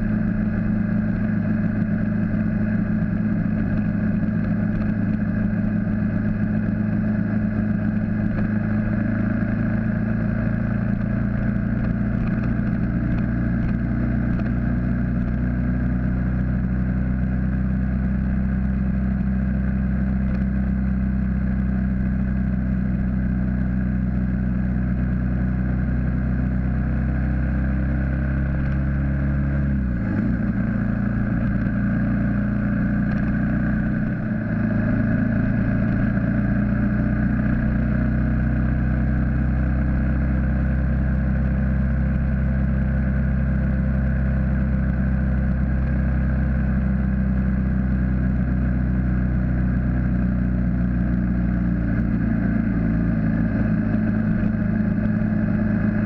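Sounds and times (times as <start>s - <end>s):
motorcycle engine pulling steadily: 0.0s - 56.0s.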